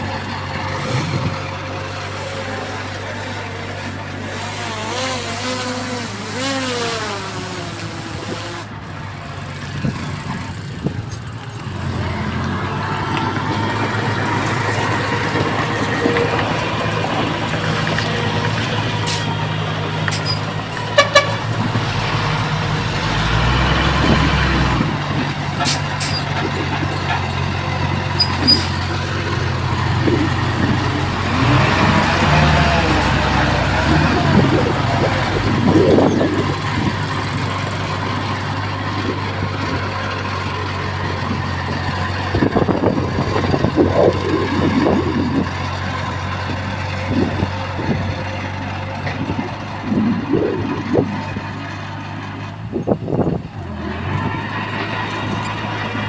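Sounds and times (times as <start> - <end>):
heavy diesel machinery running: 0.0 - 56.0
voices: 0.0 - 56.0.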